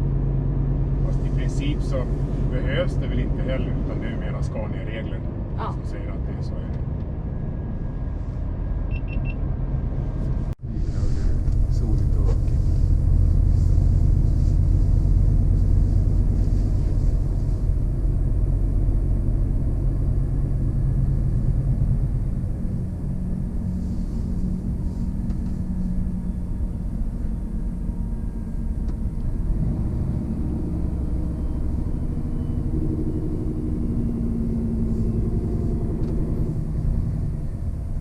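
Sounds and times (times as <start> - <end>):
truck diesel engine drone: 0.0 - 38.0.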